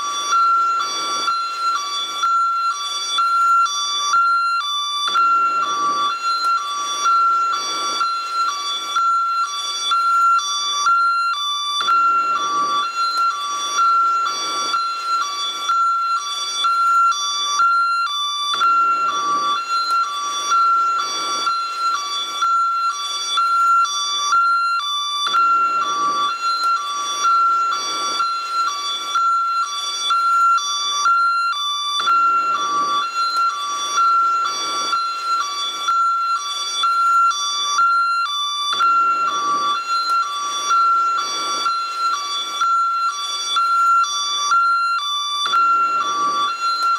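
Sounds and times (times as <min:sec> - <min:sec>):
ambulance siren two-tone: 0:00.0 - 0:46.9.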